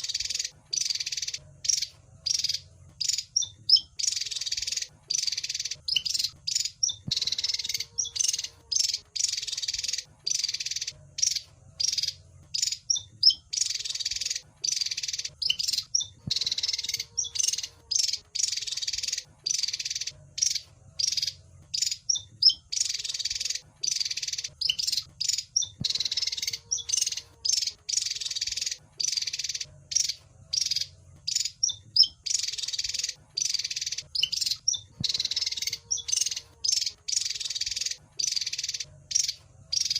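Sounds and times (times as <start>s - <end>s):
bird chattering: 0.0s - 39.9s
bird chirps: 0.0s - 39.9s.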